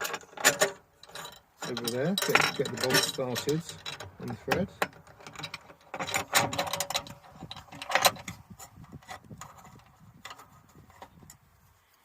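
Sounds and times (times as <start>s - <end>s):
metal clip and bolt clicking: 0.0s - 11.4s.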